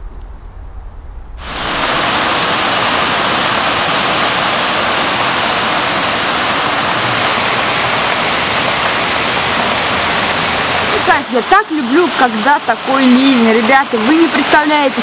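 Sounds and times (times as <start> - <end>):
heavy rain on foliage: 1.4 - 15.0.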